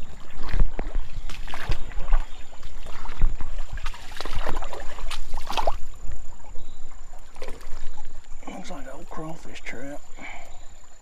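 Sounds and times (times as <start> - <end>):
wading splashes in shallow water: 0.0 - 11.0.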